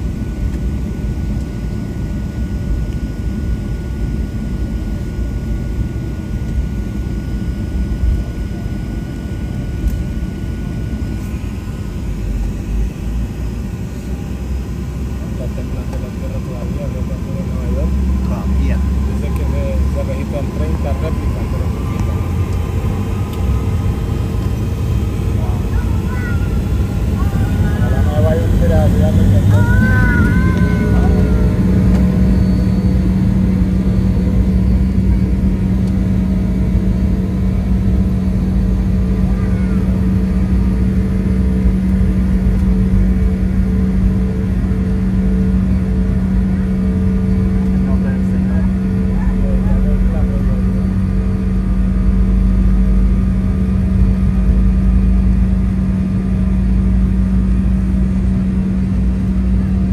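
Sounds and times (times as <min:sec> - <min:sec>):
vehicle rumbling in motion: 0:09.7 - 0:59.9.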